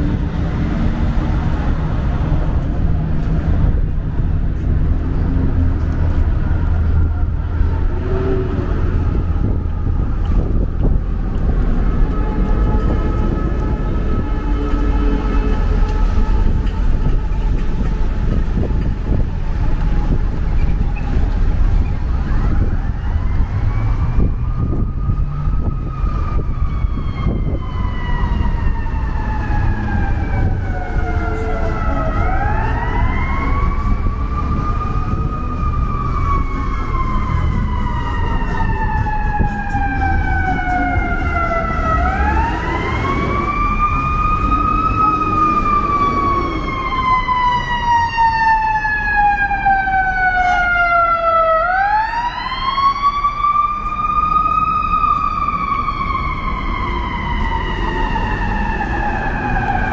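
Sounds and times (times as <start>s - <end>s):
emergency siren wailing: 0.0s - 59.9s
low traffic rumble: 0.0s - 59.9s.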